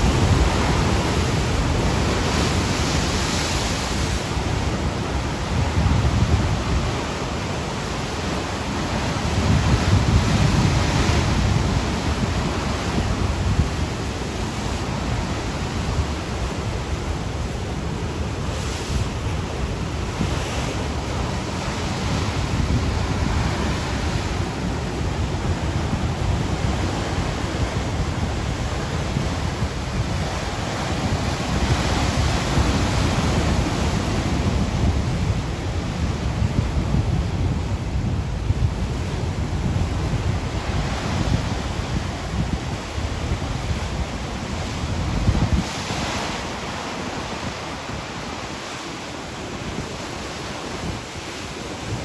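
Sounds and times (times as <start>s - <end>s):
waves breaking on a beach: 0.0s - 52.0s
wind rumbling on microphone: 0.0s - 52.0s.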